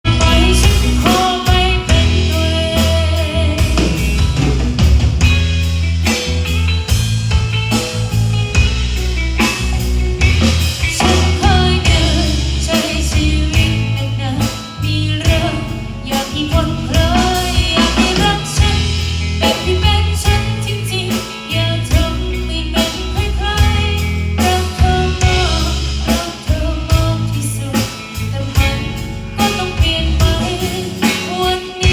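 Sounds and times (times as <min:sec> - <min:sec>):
live band playing: 0:00.0 - 0:31.9.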